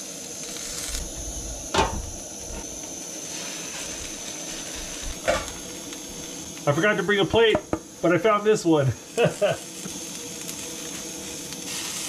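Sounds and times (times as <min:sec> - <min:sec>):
quesadilla frying in a pan: 0:00.0 - 0:12.0.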